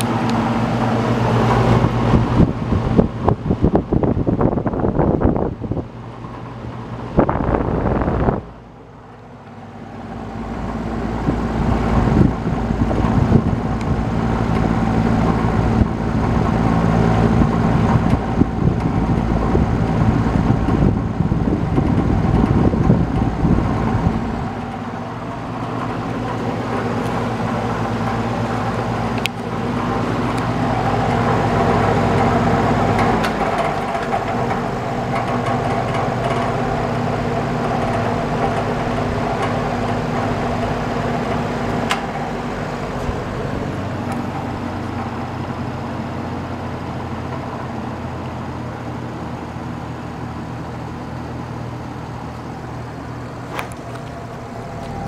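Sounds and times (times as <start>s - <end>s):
box fan running: 0.0s - 55.0s.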